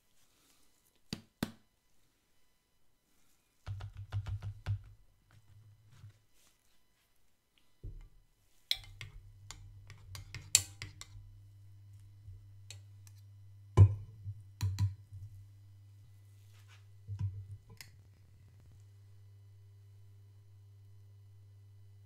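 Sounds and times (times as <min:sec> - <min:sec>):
low steady hum: 0:04.1 - 0:22.0.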